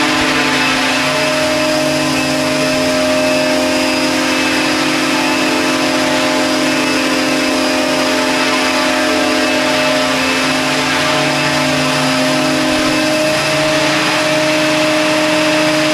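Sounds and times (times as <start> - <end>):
model helicopter hovering: 0.0 - 15.9.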